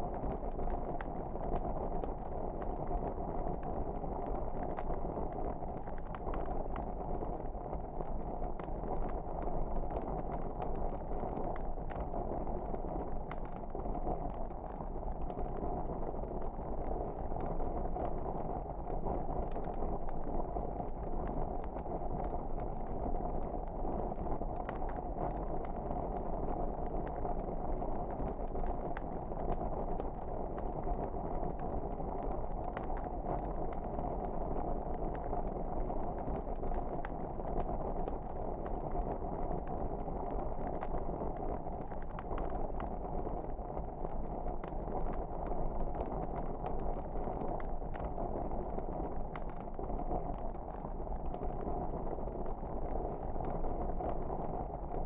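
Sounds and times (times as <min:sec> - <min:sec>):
fire crackles and pops: 0:00.0 - 0:55.0
fireplace flames rushing: 0:00.1 - 0:54.6.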